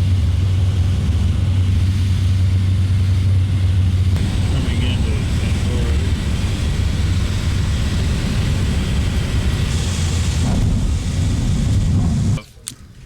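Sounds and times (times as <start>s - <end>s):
plane engines droning: 0.0s - 13.0s.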